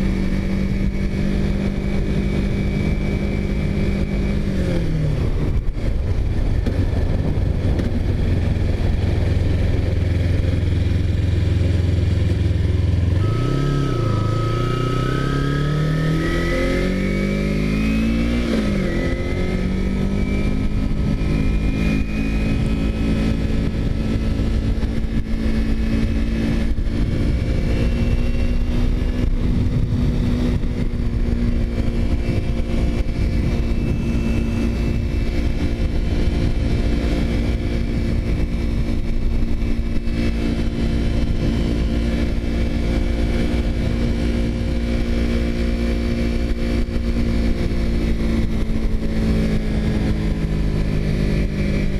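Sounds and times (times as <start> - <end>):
motorcycle engine cruising: 0.0 - 51.9
wind rumble: 0.0 - 51.9.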